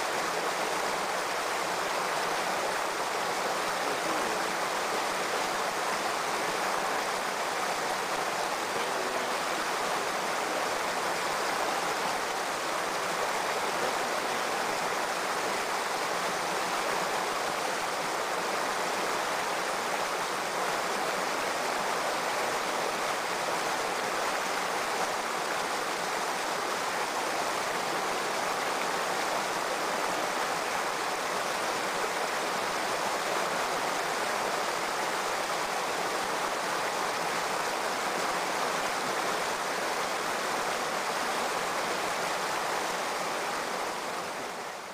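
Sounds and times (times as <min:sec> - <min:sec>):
stream running over rocks: 0:00.0 - 0:44.9.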